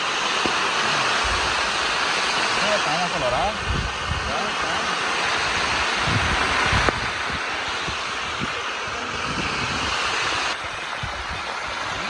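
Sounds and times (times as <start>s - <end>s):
crabs sizzling in hot oil: 0.0s - 12.0s.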